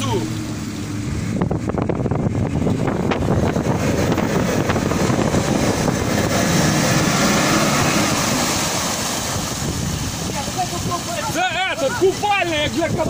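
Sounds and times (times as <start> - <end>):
engine working under load: 0.0 - 13.0
tyres splashing mud and water: 0.0 - 13.0.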